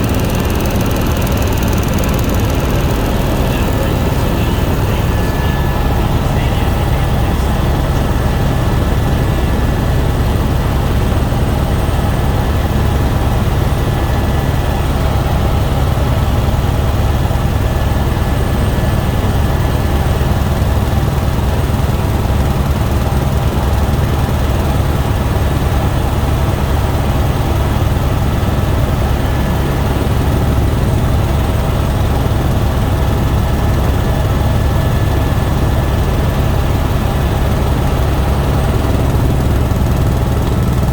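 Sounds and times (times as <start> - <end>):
helicopter turbine and rotor drone: 0.0 - 40.9.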